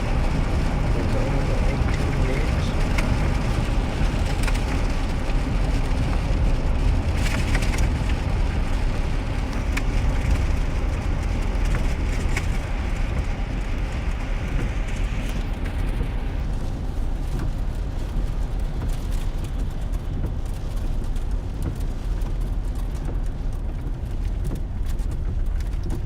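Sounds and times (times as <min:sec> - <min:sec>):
truck engine rumble from inside cab: 0:00.0 - 0:26.0
tyres on wet road: 0:00.0 - 0:26.0.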